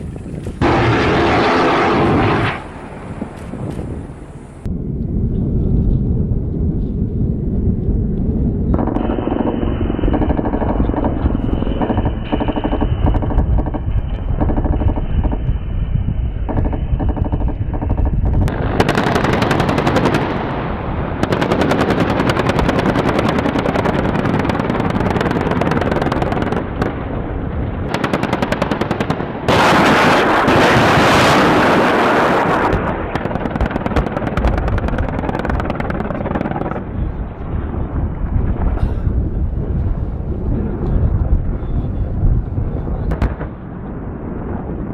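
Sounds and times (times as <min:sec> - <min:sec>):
continuous low rumble: 0:00.0 - 0:44.9.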